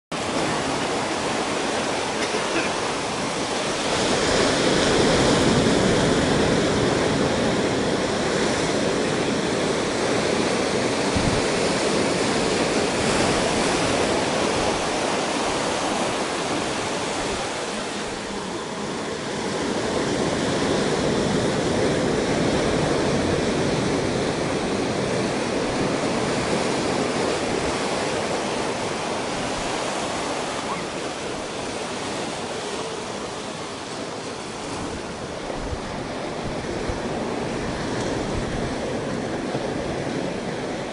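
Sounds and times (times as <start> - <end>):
ocean surf over rocks: 0.1 - 40.9.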